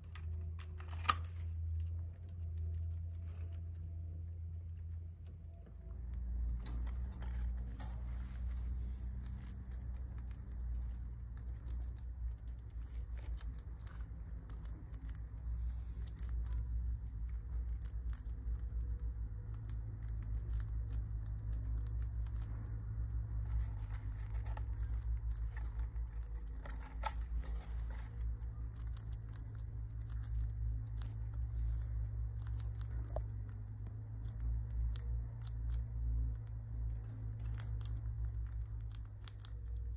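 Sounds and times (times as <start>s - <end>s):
rats nibbling and rustling: 0.0s - 39.9s
steady low hum: 0.0s - 39.9s.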